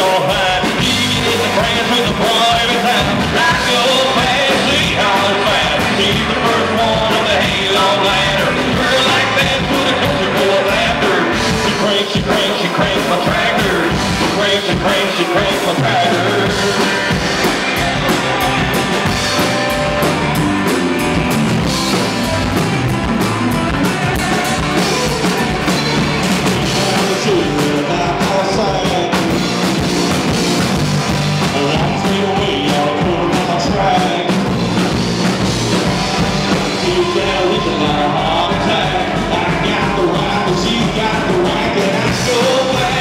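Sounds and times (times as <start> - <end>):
bass guitar: 0.0 - 43.0
drum kit: 0.0 - 43.0
electric guitars: 0.0 - 43.0.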